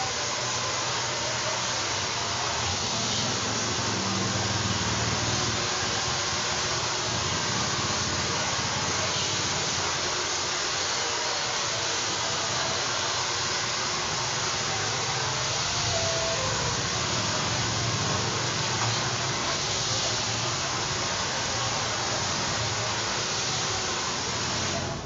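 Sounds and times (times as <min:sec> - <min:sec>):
hair dryer running: 0:00.0 - 0:25.0.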